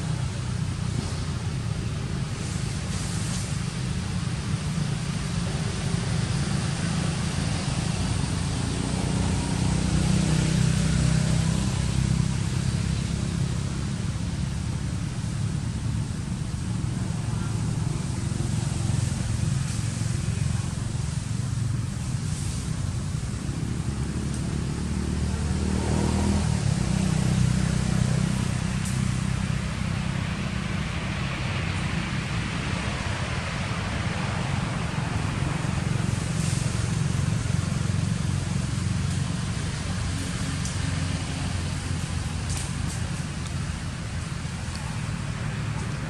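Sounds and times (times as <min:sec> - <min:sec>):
low motor rumble: 0:00.0 - 0:46.0.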